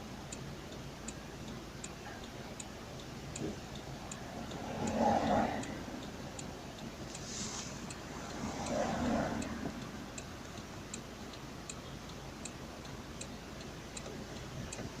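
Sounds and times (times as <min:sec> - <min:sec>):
turn signal relay clicking: 0:00.0 - 0:08.8, 0:09.4 - 0:15.0.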